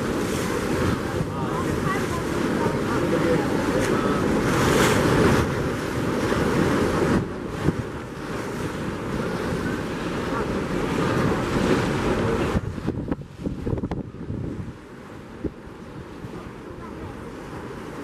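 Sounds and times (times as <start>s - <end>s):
choppy water splashing: 0.0s - 18.0s
wind buffeting microphone: 0.0s - 18.0s.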